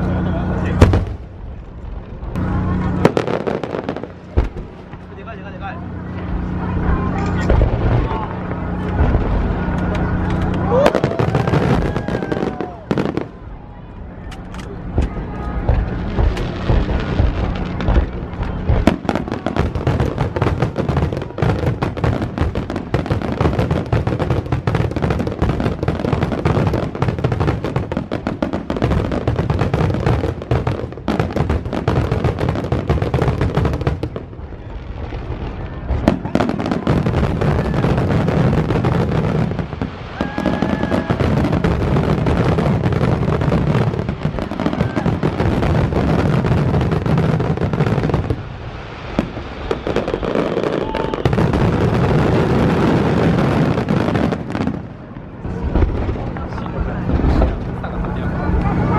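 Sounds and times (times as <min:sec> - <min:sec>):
fireworks bursting and crackling: 0:00.0 - 0:58.9.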